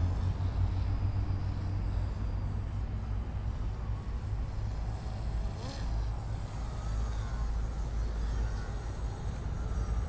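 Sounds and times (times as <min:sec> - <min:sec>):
model plane motor whine: 0:00.0 - 0:10.0.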